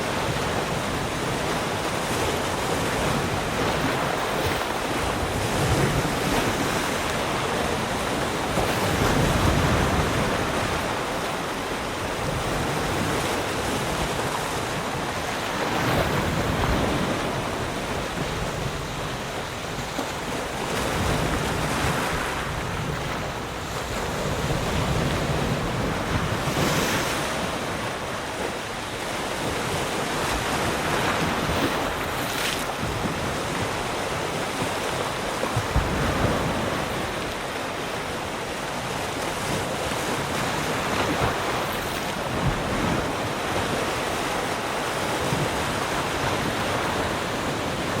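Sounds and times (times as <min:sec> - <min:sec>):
wind rumbling on microphone: 0:00.0 - 0:37.3, 0:38.2 - 0:48.0
waves breaking on shore: 0:00.0 - 0:48.0.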